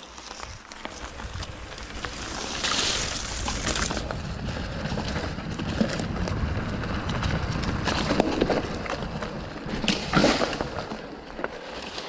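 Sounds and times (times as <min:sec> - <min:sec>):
bike rattles and clicks: 0:00.0 - 0:12.0
tyres rolling on dirt and twigs: 0:00.0 - 0:12.0
wind buffeting microphone: 0:00.5 - 0:11.4.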